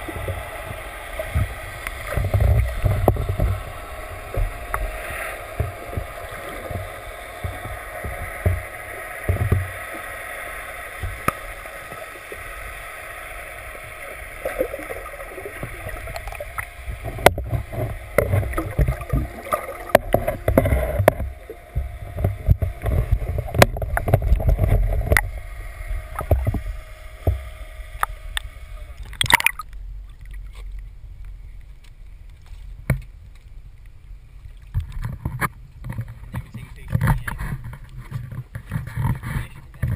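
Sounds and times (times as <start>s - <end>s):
muffled underwater hum: 0.0s - 39.9s.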